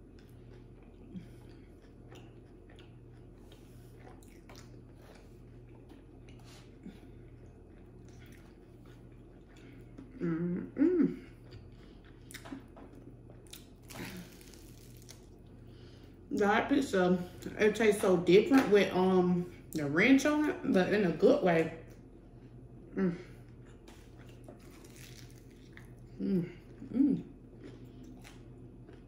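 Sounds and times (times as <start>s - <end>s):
person chewing pizza: 0.0s - 16.4s, 21.8s - 29.0s.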